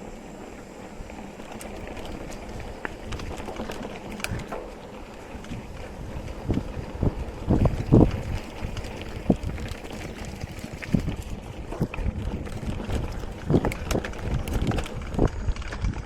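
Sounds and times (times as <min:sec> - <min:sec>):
bike knocking and rattling: 0:00.0 - 0:16.0
wind buffeting microphone: 0:00.0 - 0:16.0.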